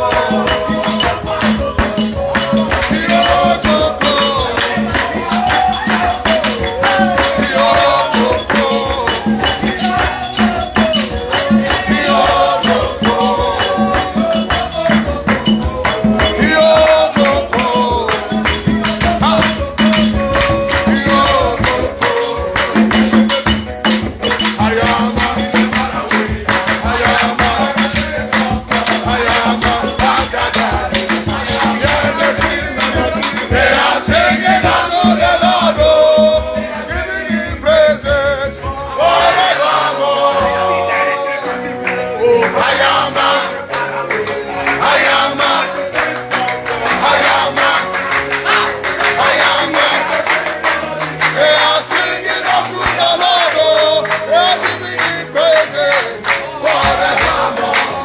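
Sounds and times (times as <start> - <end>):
fast shaker rhythm: 0.0 - 39.9, 44.7 - 58.0
person singing: 0.0 - 58.0.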